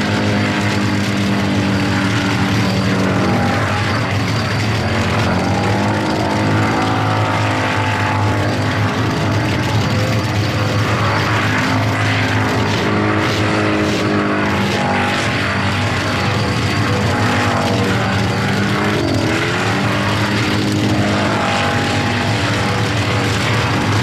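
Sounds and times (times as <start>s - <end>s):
car engine revving: 0.0s - 24.0s
tyres spinning: 0.0s - 24.0s.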